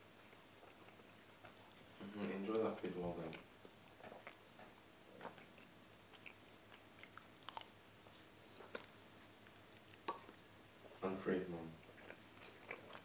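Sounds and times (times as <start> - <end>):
faint chewing with mouth clicks: 0.0 - 13.0.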